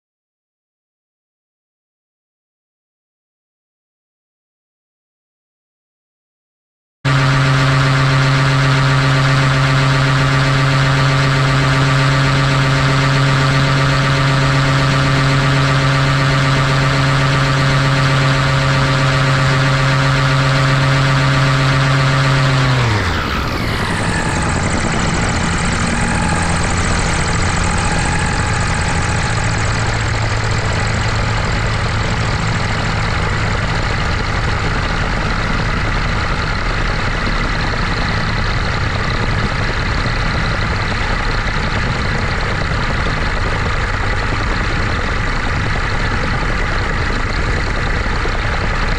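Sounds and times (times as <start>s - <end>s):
gyrocopter engine winding down: 7.1s - 48.9s.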